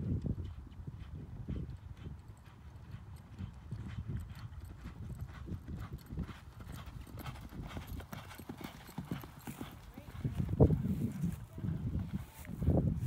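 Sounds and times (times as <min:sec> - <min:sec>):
horses galloping on sand: 0:00.0 - 0:13.0.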